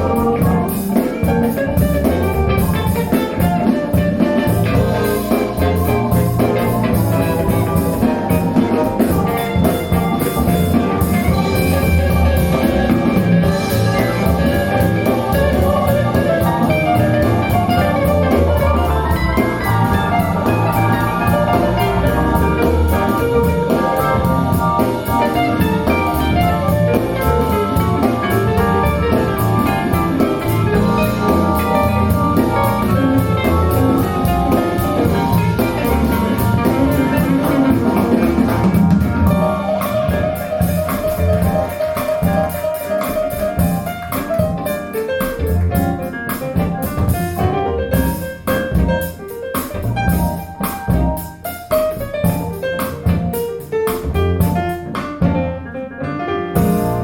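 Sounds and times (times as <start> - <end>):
instrumental music over loudspeakers: 0.0 - 57.0.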